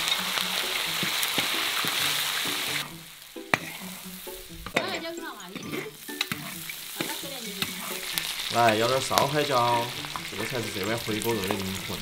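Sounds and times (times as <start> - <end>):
metal spatula clanking and scraping: 0.0 - 2.0, 2.8 - 12.0
food sizzling in a wok: 0.0 - 12.0.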